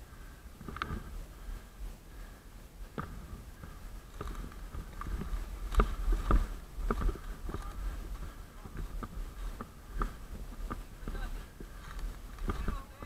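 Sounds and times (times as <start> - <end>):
footsteps crunching over branches: 0.6 - 13.0.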